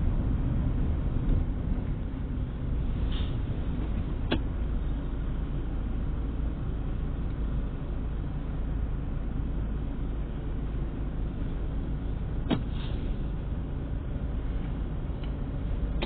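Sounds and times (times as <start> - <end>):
low rumble inside car: 0.0 - 16.0.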